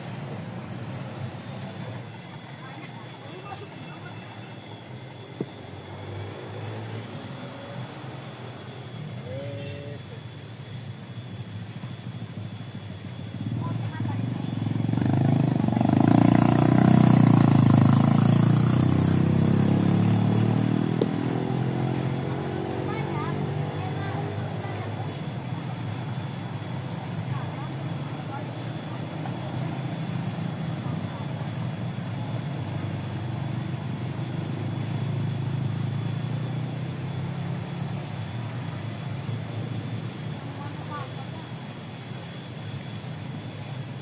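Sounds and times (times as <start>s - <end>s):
small engine running: 0.0s - 44.0s.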